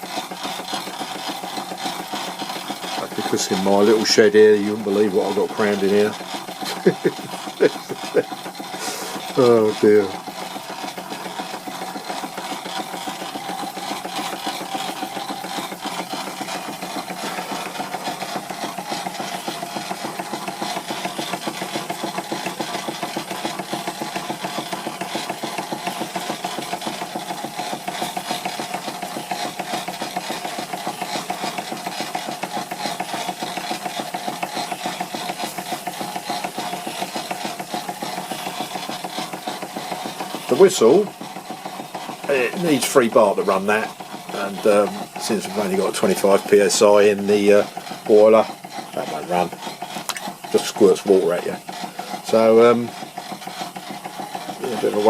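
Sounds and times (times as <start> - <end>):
gear whirring and ticking: 0.0 - 55.0
model steam engine running: 0.0 - 55.0.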